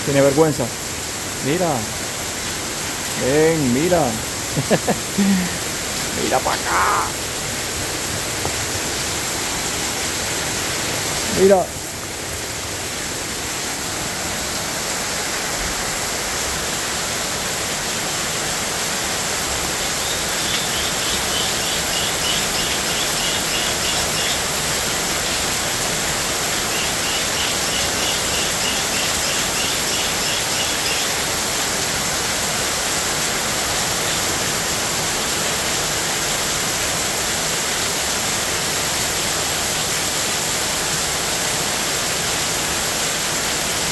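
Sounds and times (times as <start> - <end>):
heavy rain pouring: 0.0 - 43.9
water streaming off roof: 0.0 - 43.9.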